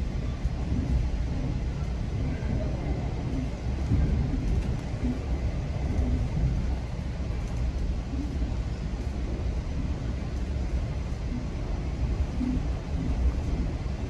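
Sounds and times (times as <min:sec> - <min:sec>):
train rumble inside coach: 0:00.0 - 0:14.0.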